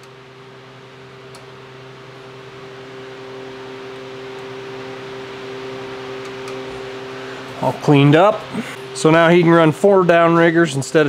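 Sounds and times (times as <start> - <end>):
machine hum with hiss: 0.0 - 11.0.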